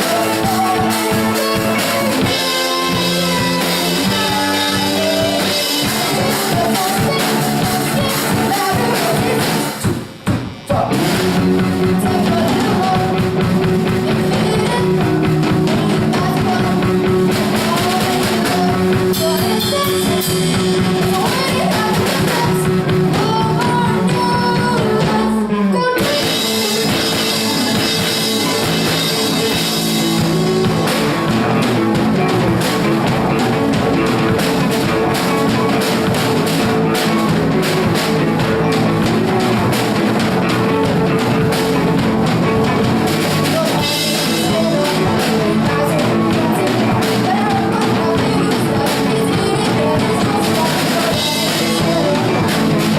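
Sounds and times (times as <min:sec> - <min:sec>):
person singing: 0:00.0 - 0:09.9, 0:10.6 - 0:52.9
rock band playing: 0:00.0 - 0:52.9.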